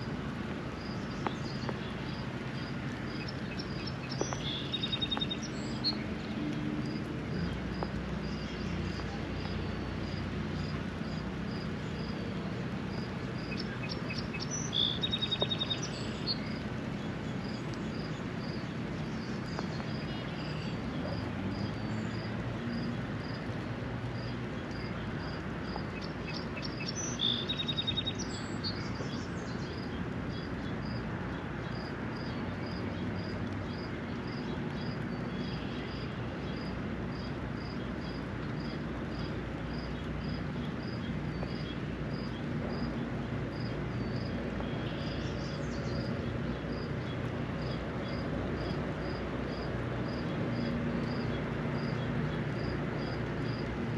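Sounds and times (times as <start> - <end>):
rain shower hiss: 0.0 - 53.9.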